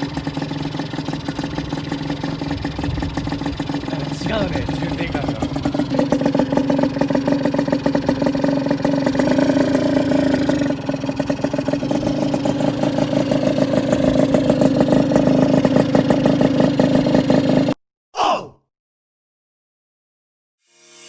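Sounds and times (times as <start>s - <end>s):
two-stroke engine running: 0.0s - 17.8s.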